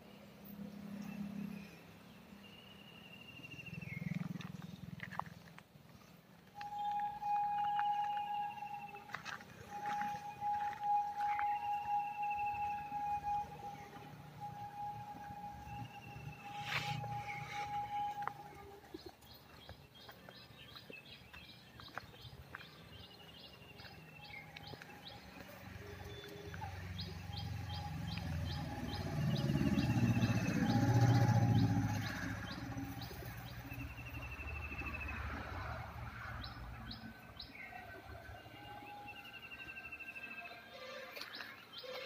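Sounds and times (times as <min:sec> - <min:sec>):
birds chirping: 0:00.5 - 0:42.0.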